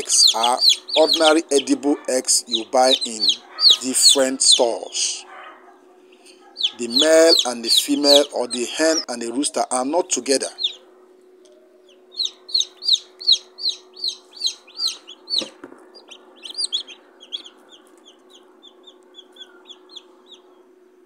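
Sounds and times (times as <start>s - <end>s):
chicks peeping: 0.0s - 21.0s
steady low hum: 0.0s - 21.0s.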